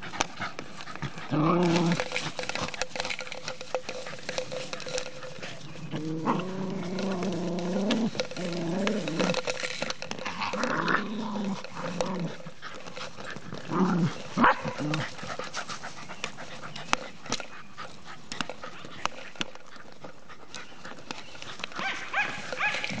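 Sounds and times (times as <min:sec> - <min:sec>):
dogs growling: 0:00.0 - 0:23.0.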